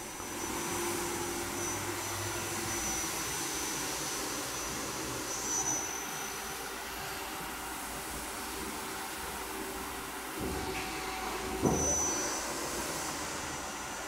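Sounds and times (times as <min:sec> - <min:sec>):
thin high tone: 0:00.0 - 0:08.6, 0:10.8 - 0:14.0.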